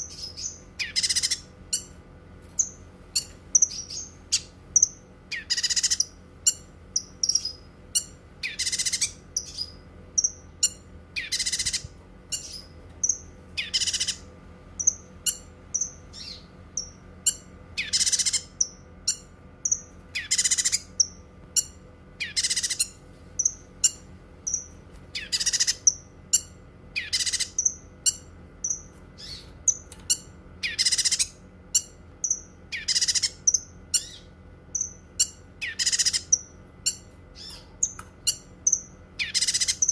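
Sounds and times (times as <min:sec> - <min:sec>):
songbird chirping: 0:00.0 - 0:02.0, 0:02.6 - 0:39.9
faint steady hum: 0:00.0 - 0:39.9.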